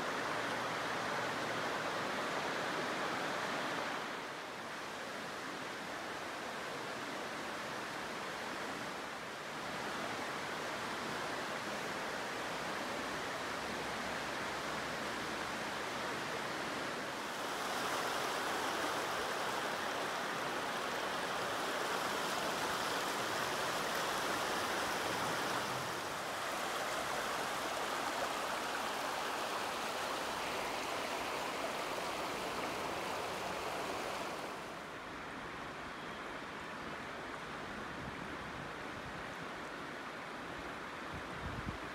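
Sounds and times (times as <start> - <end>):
river water rushing over rocks: 0.0 - 36.6.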